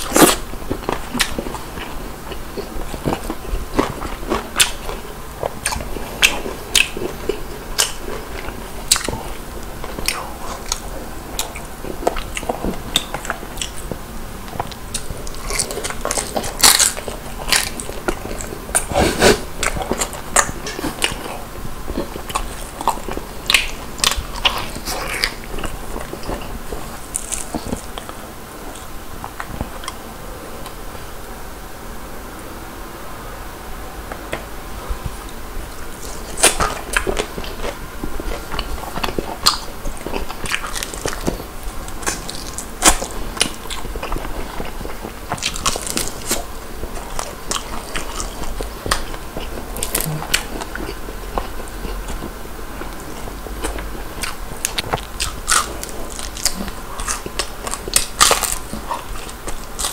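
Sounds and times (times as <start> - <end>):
person chewing crispy chicken: 0.0 - 30.0, 35.9 - 59.9.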